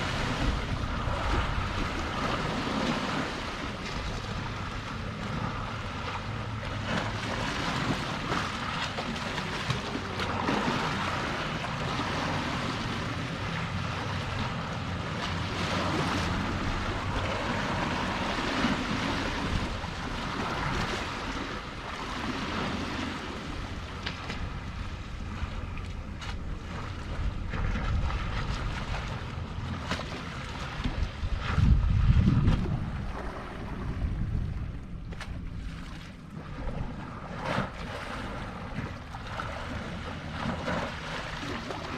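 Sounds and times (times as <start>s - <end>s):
sea waves washing ashore: 0.0s - 41.9s
wind on microphone: 0.0s - 41.9s.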